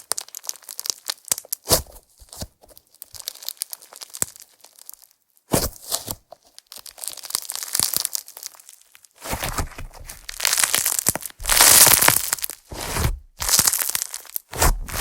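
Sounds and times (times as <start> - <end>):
slime crackling and popping: 0.0 - 15.0.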